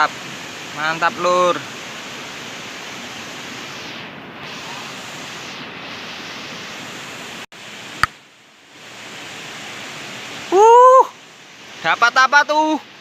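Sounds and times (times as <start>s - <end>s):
water flowing in a stream: 0.0s - 13.0s.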